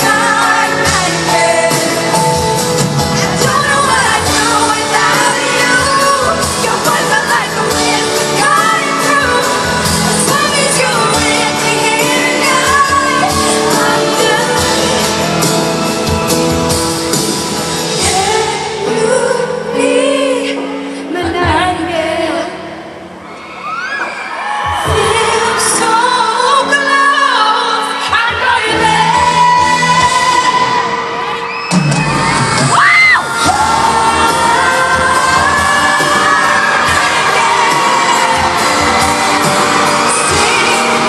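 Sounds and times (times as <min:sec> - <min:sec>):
woman singing: 0:00.0 - 0:16.0, 0:17.8 - 0:22.9, 0:24.7 - 0:31.5, 0:32.8 - 0:41.0
band playing pop ballad: 0:00.0 - 0:23.2, 0:24.0 - 0:41.0.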